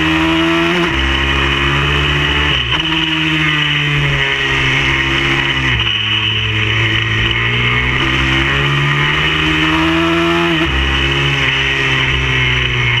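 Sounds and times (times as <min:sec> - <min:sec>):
pit bike engine revving: 0:00.0 - 0:13.0.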